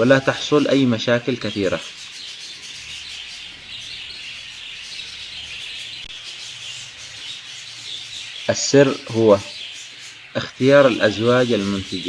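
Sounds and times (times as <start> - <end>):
budgerigars chattering and chirping: 0.0 - 12.0.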